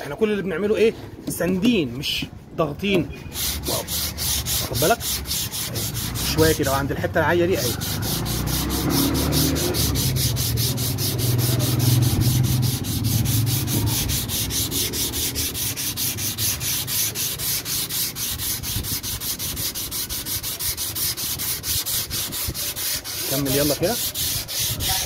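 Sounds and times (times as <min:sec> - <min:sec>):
sandpaper sanding strokes: 0:03.3 - 0:25.0.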